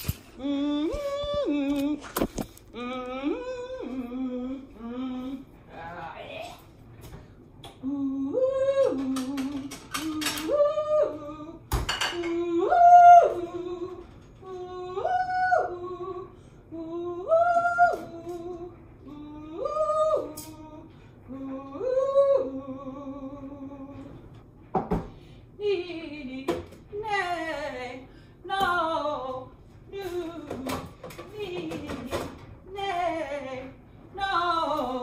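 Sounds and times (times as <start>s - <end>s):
woman singing vocal exercise: 0.1s - 6.6s, 7.6s - 24.3s, 25.6s - 35.0s.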